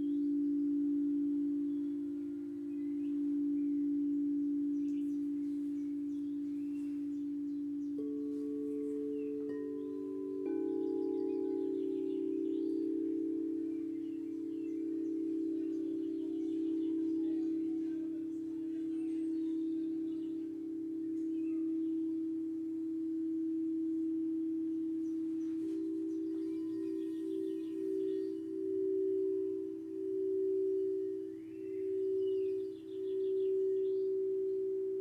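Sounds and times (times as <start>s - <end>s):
faint bird chirps: 0.0s - 35.0s
singing bowl ringing: 0.0s - 35.0s.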